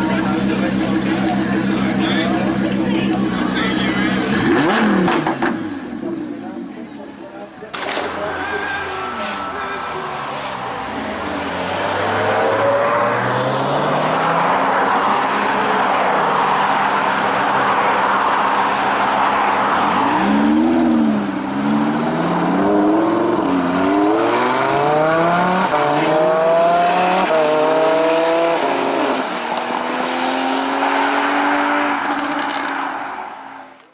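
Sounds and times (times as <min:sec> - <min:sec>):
sports car engine accelerating: 0:00.0 - 0:06.8, 0:09.2 - 0:32.7.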